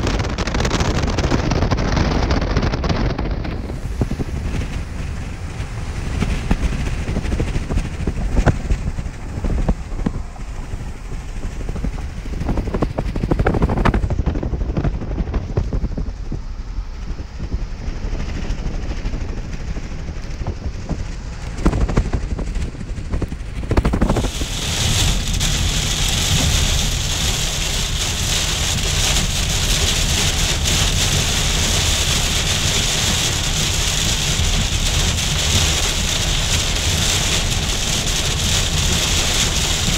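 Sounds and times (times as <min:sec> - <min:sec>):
heavy rain on car roof: 0:00.0 - 0:14.3, 0:20.3 - 0:39.9
road and wind rumble in car: 0:00.0 - 0:39.9
wind buffeting thumps: 0:00.0 - 0:39.9.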